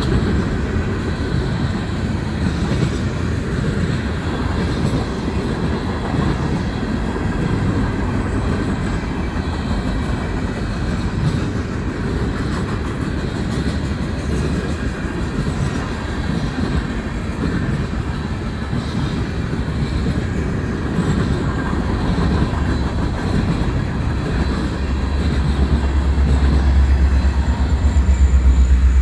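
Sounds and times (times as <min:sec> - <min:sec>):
diesel locomotive rumble: 0:00.0 - 0:29.0
freight train wheels clacking: 0:00.0 - 0:29.0.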